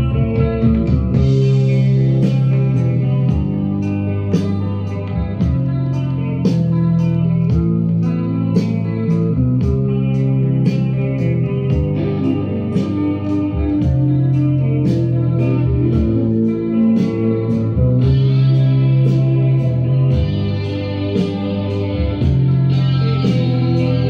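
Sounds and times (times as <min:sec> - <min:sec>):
vinyl record music over loudspeakers: 0:00.0 - 0:24.0.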